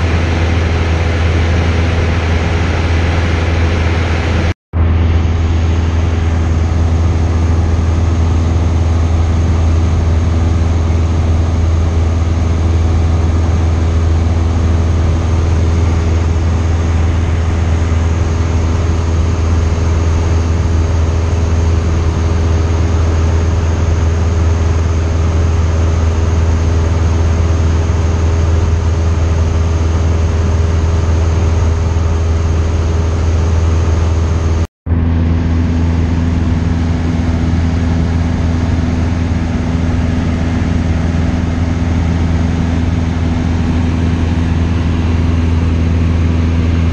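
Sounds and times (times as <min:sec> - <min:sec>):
aircraft engine hum in cabin: 0:00.0 - 0:46.9.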